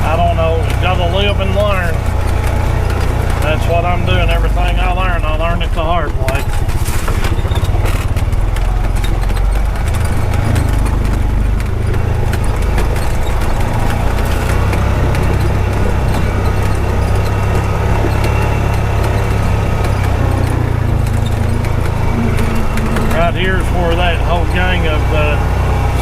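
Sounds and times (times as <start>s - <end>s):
knocks and rattles from vehicle: 0.0s - 26.0s
utility vehicle engine under load: 0.0s - 26.0s.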